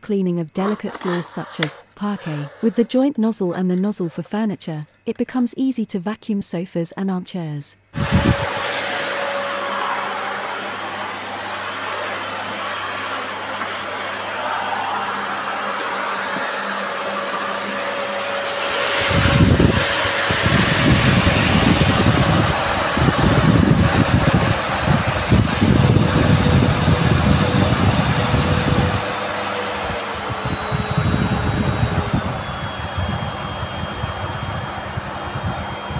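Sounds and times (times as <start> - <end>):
vacuum cleaner motor whine: 0.6 - 2.9, 8.0 - 35.9.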